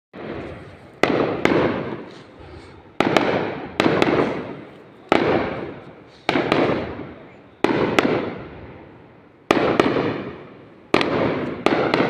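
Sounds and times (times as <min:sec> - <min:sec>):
fireworks bursting: 0:00.2 - 0:12.0.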